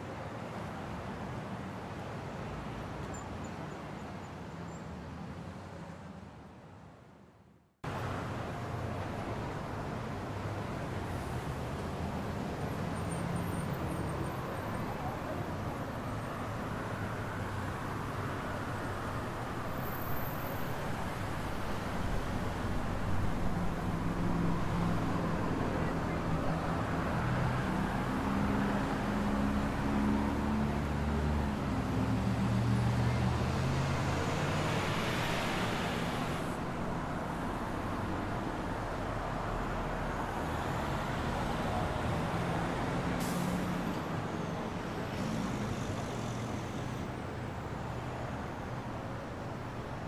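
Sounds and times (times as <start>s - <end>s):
city street traffic: 0.0s - 50.0s.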